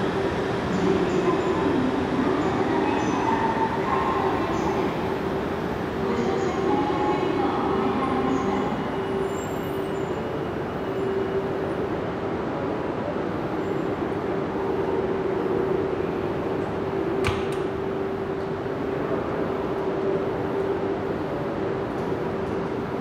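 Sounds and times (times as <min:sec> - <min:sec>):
train running hum: 0:00.0 - 0:23.0.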